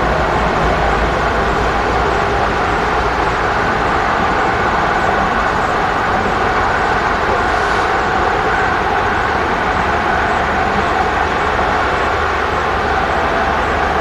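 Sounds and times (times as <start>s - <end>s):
steel wheels rolling on rail: 0.0s - 14.0s.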